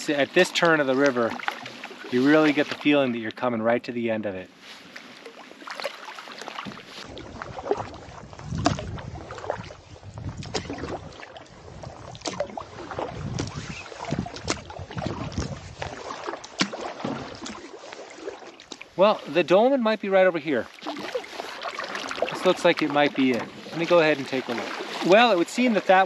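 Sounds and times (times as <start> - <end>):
paddle splashing in water: 0.0 - 3.4, 4.5 - 26.0.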